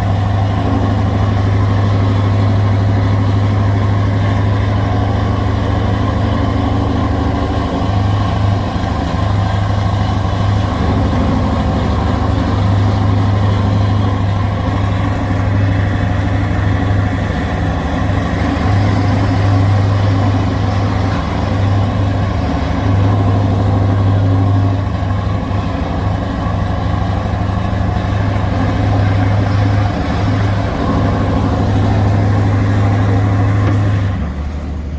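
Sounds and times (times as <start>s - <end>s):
truck engine droning: 0.0s - 34.9s.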